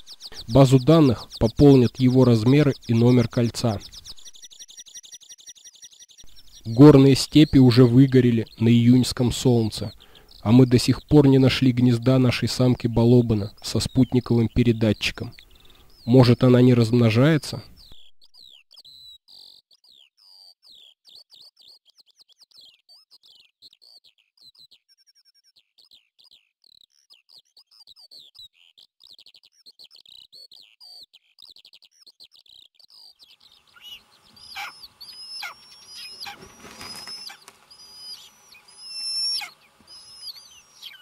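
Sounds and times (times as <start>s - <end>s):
drawn-out high bird calls: 0.0s - 41.0s
songbird twittering song: 0.0s - 41.0s.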